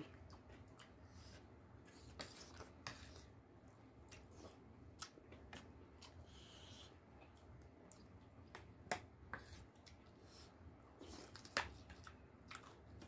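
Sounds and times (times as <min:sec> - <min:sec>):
quiet eating sounds: 0:00.0 - 0:13.0.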